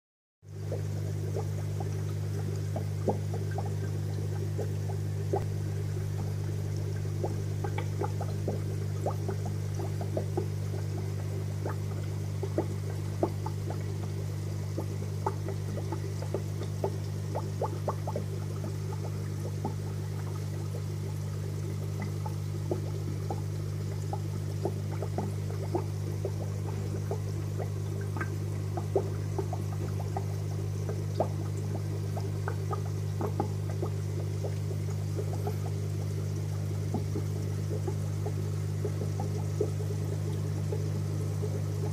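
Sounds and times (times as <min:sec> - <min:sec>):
aquarium filter bubbling: 0:00.5 - 0:41.9
steady low hum: 0:00.5 - 0:41.9.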